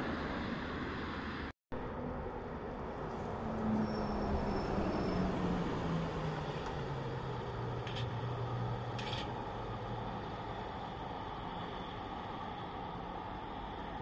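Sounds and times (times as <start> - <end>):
diesel railcar rumble: 0.0 - 14.0.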